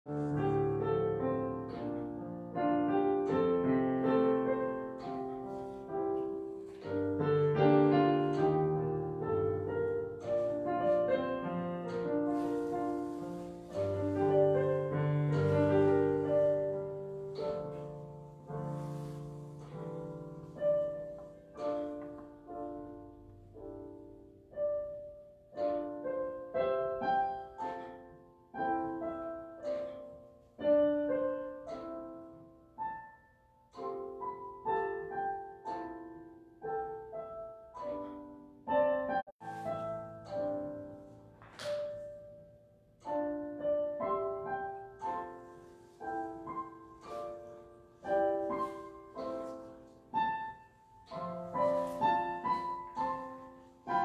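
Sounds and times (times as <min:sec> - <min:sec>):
solo piano piece: 0:00.1 - 0:54.0.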